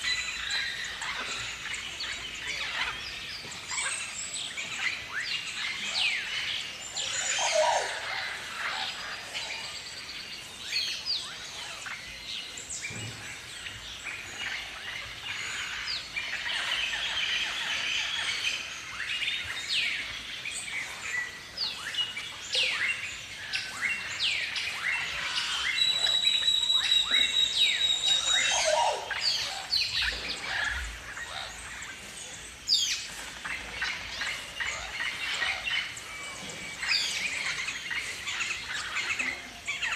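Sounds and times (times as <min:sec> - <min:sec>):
cockatoos chirping and screeching: 0:00.0 - 0:39.9.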